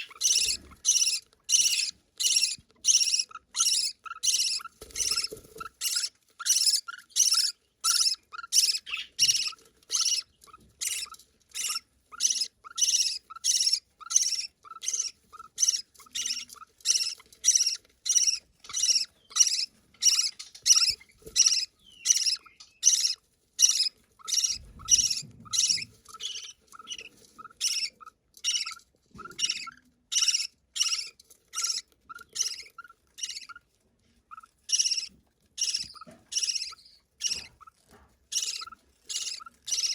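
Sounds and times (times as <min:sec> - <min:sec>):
bird chick begging calls: 0:00.0 - 0:33.6, 0:34.3 - 0:37.6, 0:38.3 - 0:39.9.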